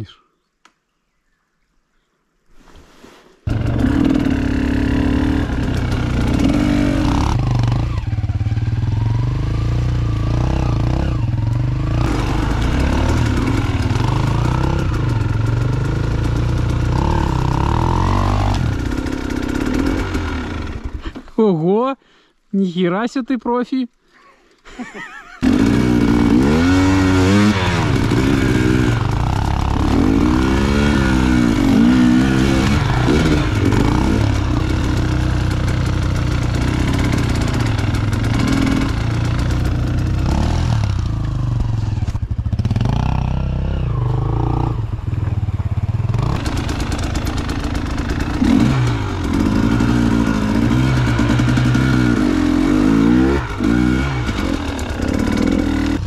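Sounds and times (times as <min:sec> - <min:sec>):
motorcycle engine revving: 0:03.5 - 0:21.1, 0:25.3 - 0:56.0.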